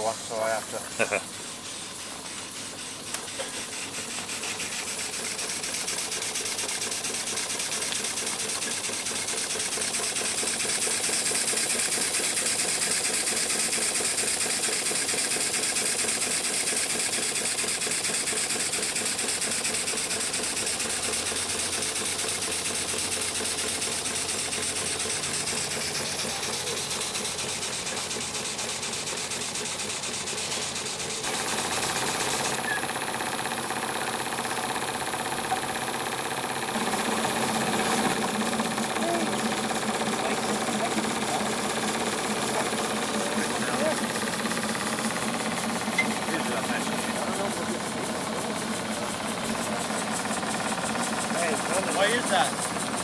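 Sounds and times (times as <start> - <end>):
hiss of steam: 0.0 - 53.0
model steam engine beat: 0.0 - 53.0.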